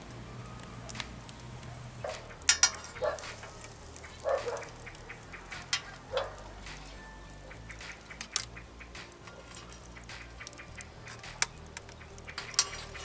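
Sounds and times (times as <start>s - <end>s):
metal skewers clinking: 2.0s - 13.0s
skewers knocking on metal grill: 2.1s - 13.0s.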